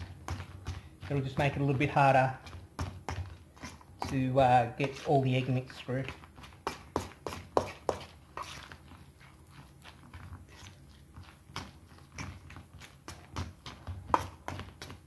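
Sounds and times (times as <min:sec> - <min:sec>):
hand squelching cheese in bowl: 0:00.0 - 0:15.0.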